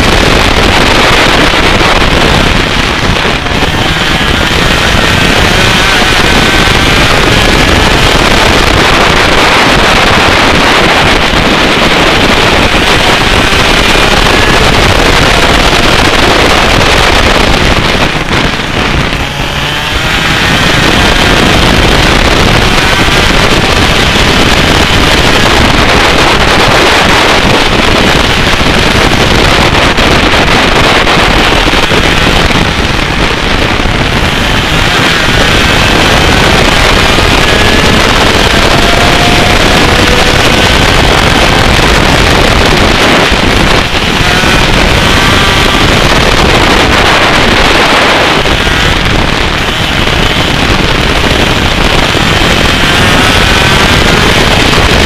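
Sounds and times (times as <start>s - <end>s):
kart engine running hard: 0.0s - 55.0s
wind buffeting microphone: 0.0s - 55.0s.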